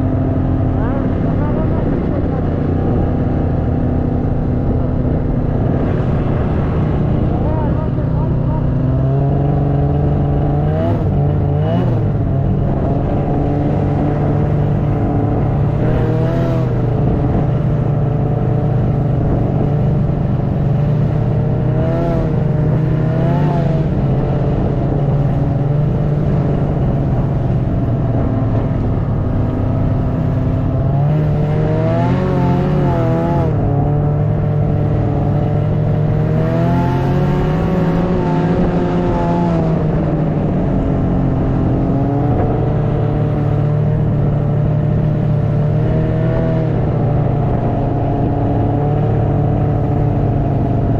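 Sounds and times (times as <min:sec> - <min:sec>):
snowmobile engine running: 0:00.0 - 0:50.9.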